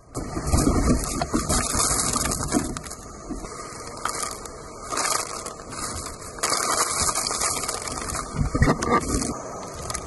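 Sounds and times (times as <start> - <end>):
driving rain: 0.0 - 10.0
strong wind gusts: 0.1 - 10.0.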